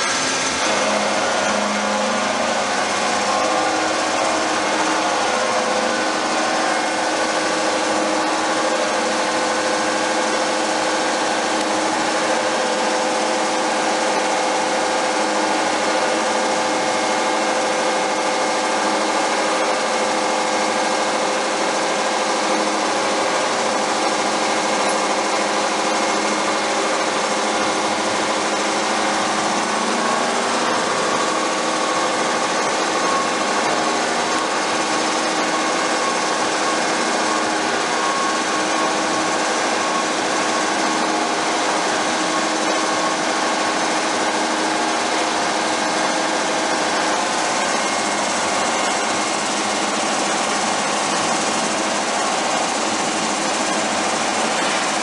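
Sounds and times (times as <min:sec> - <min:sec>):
boring mill machine whine: 0:00.0 - 0:55.0.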